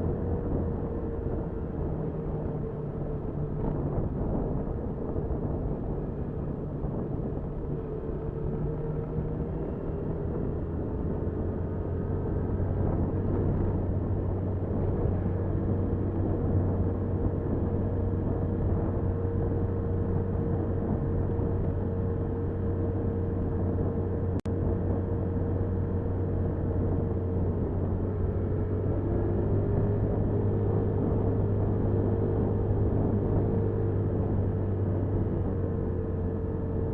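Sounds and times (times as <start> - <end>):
motorcycle engine running: 0.0 - 36.9
road and wind noise: 0.0 - 36.9.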